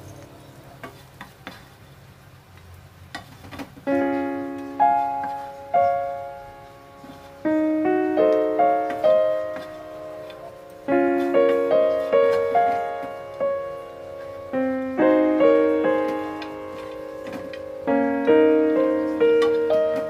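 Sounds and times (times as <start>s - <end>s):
piano music: 0.0s - 1.2s, 3.8s - 20.0s.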